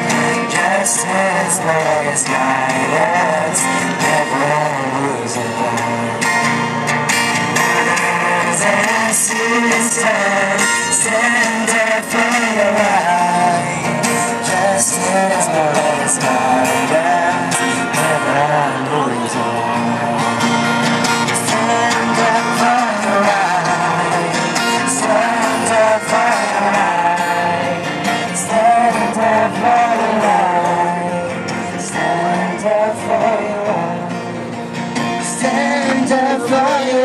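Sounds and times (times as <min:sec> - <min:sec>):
acoustic guitar: 0:00.0 - 0:37.0
group of people singing: 0:00.0 - 0:37.0.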